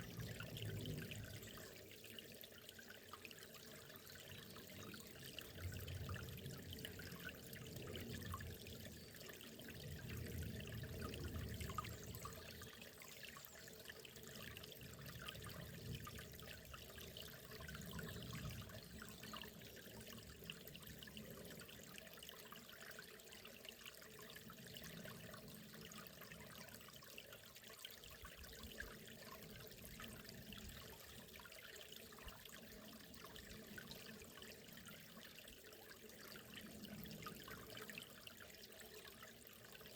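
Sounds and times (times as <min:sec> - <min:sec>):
river water trickling: 0:00.0 - 0:39.9.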